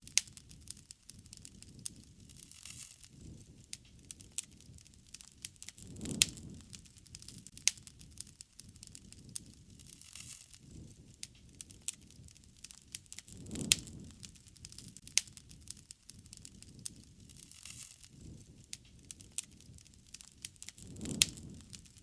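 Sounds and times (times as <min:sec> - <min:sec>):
campfire crackling: 0:00.0 - 0:22.0
low rumble of flame: 0:00.0 - 0:22.0.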